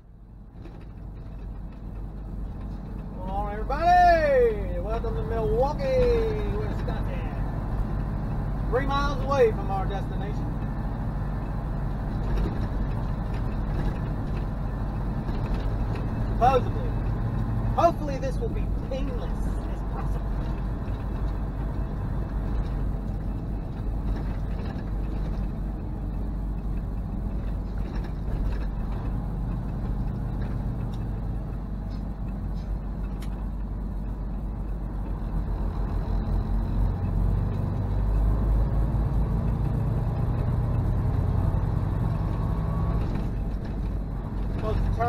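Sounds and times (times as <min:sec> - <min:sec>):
diesel truck engine: 0:00.0 - 0:45.0
road rumble: 0:00.0 - 0:45.0.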